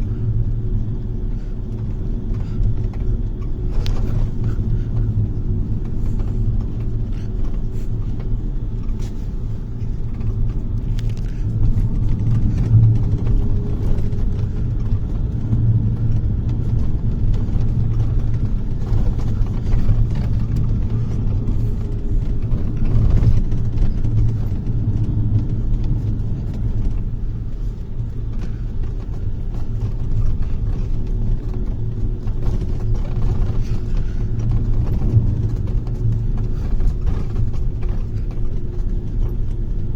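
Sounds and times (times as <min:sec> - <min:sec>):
bus engine drone: 0:00.0 - 0:39.9
small rattles and clicks: 0:00.0 - 0:39.9.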